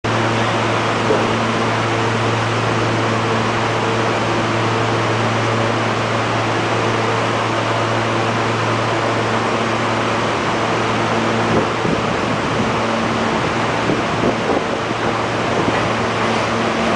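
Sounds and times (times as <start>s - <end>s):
subway train coasting: 0.1s - 16.9s.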